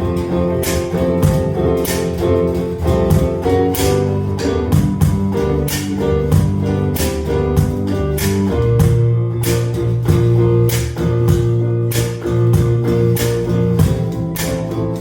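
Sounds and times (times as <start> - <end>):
bass notes with steady beat: 0.0 - 15.0
guitar playing: 0.0 - 15.0.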